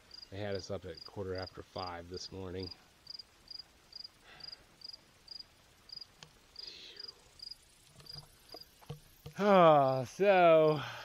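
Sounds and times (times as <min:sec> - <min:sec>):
cricket chirping: 0:00.0 - 0:01.6, 0:02.6 - 0:10.0.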